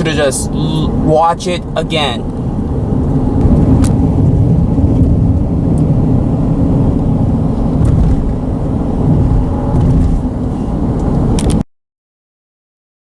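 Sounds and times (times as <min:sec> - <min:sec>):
car tyres rumbling on road: 0:00.0 - 0:11.6.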